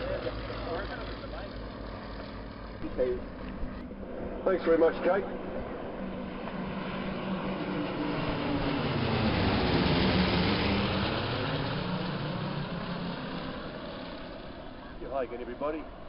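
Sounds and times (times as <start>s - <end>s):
propeller aircraft passing: 0.0s - 16.0s.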